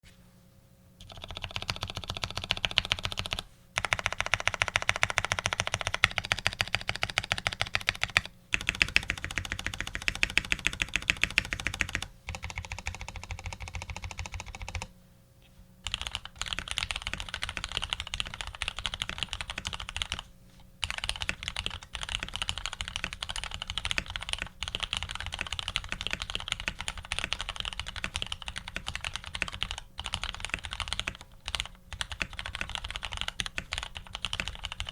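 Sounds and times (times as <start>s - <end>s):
mechanical keyboard typing: 1.0s - 14.9s, 15.8s - 34.9s.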